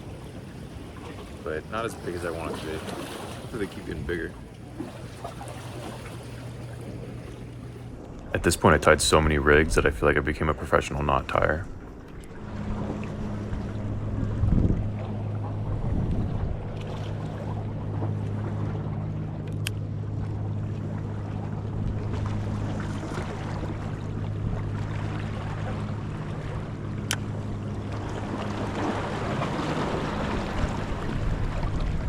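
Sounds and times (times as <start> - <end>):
low engine hum: 0.0 - 32.0
water noise: 0.0 - 32.0
wind: 0.0 - 32.0.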